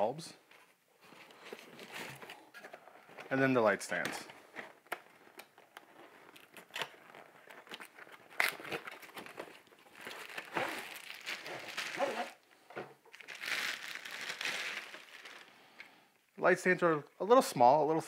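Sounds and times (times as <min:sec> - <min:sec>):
plastic wrapping crinkling: 0:01.0 - 0:16.0.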